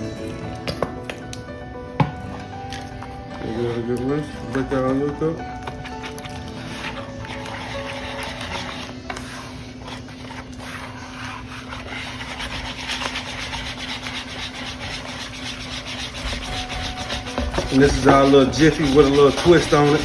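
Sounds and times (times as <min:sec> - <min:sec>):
whisk beating batter in bowl: 0:02.4 - 0:20.0.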